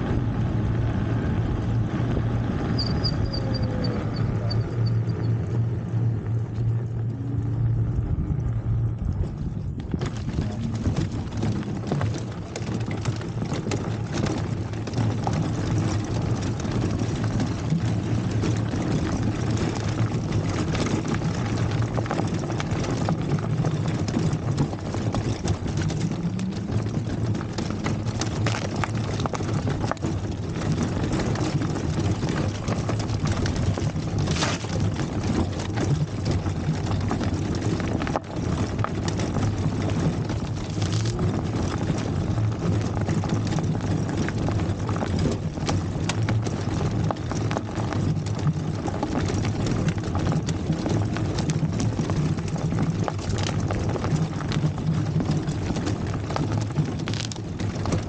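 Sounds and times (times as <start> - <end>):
bike rattling and knocking: 0.0 - 58.0
electric bike hum and rumble: 0.0 - 58.0.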